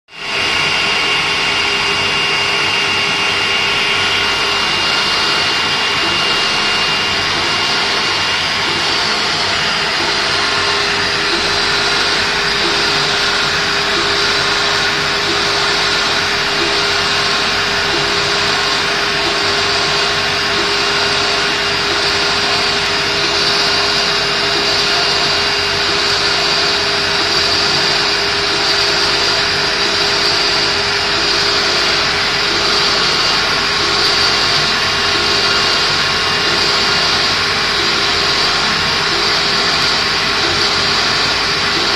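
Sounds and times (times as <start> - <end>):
constant machine hum: 0.1 - 41.9
cutting machine whirring: 0.1 - 41.9.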